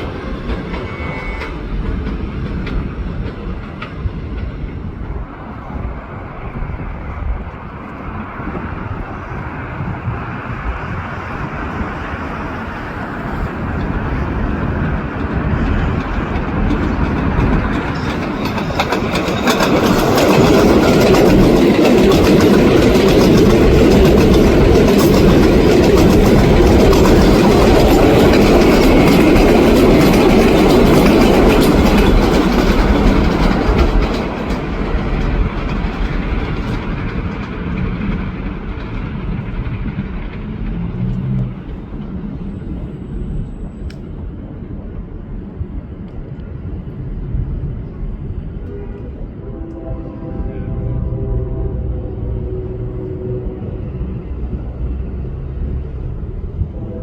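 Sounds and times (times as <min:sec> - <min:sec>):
steel wheels on rail: 0:00.0 - 0:57.0
subway train passing: 0:00.0 - 0:57.0.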